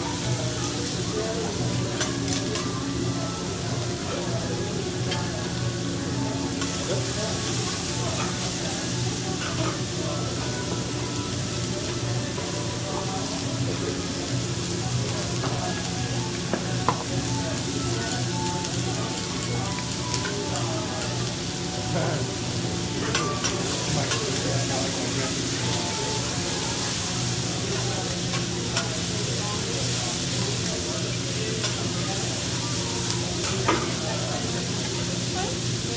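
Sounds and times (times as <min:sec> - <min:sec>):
vegetables sizzling on griddle: 0:00.0 - 0:35.9.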